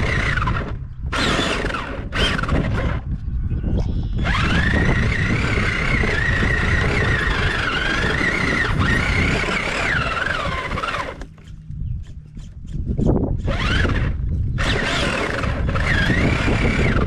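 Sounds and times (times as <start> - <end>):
rc car engine whining: 0.0 - 3.0, 4.1 - 17.0.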